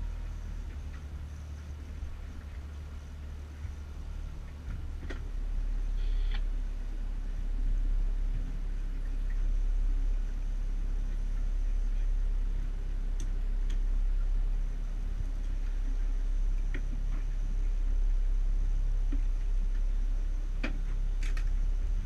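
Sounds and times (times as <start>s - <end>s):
boat low rumble: 0.0s - 22.0s.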